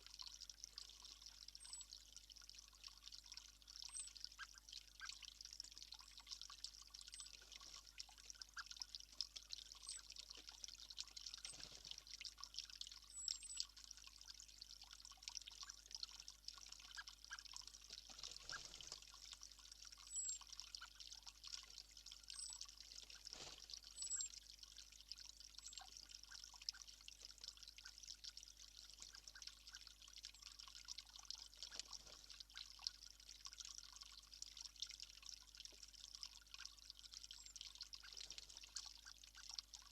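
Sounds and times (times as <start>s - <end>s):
steady trickling hiss: 0.0s - 39.9s.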